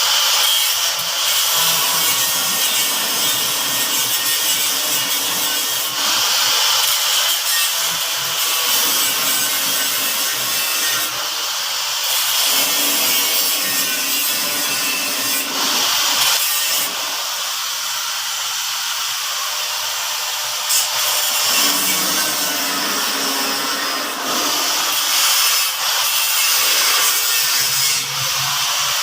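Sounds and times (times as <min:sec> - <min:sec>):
power tool grinding metal: 0:00.0 - 0:29.0.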